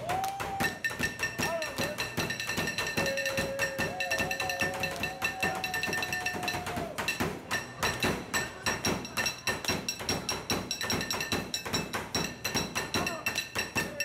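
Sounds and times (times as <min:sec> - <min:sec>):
metal tools drumming: 0:00.5 - 0:14.0.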